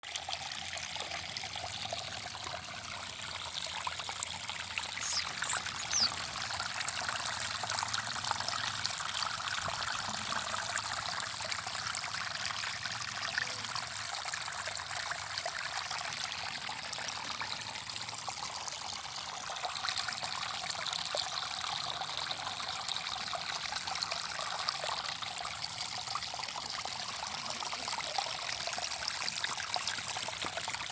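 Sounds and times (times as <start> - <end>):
water trickling and splashing: 0.0 - 30.9.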